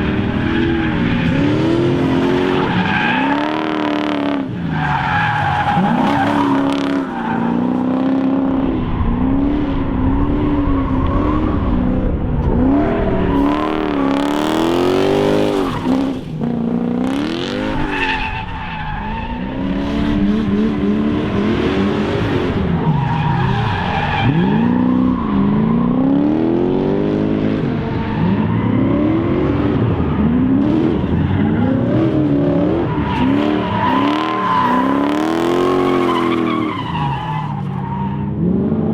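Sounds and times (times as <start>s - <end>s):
truck engine revving: 0.0s - 38.9s
tyres skidding and squealing: 0.0s - 38.9s.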